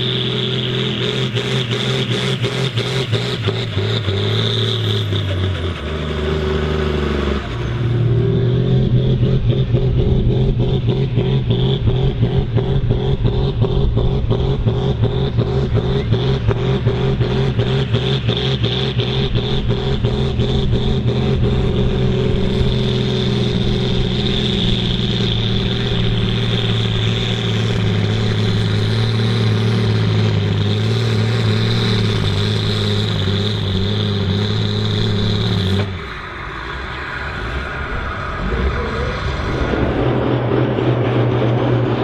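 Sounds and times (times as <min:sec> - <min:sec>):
high engine whine: 0:00.0 - 0:42.0
tractor diesel engine under load: 0:00.0 - 0:42.0.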